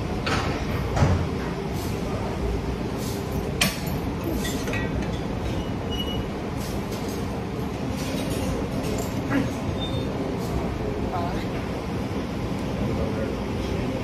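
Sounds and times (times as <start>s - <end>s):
weight room rumble: 0.0s - 14.0s.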